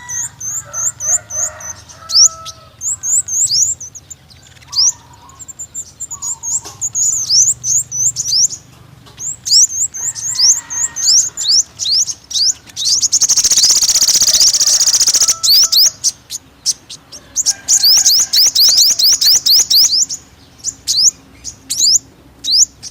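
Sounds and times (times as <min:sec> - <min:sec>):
buzzy bird trill: 0:00.0 - 0:22.9
sunbird chirping: 0:00.0 - 0:22.9.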